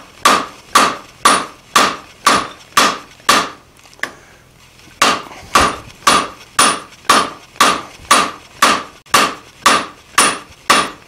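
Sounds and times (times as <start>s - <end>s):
hammer striking hot steel on anvil: 0.2s - 3.6s, 5.0s - 11.0s.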